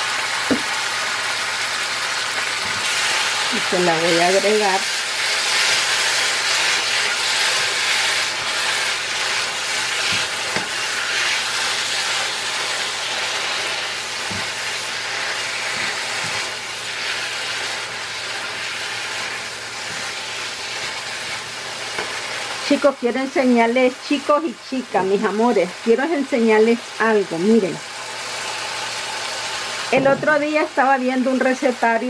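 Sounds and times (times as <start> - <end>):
meat sizzling in a frying pan: 0.0 - 32.0.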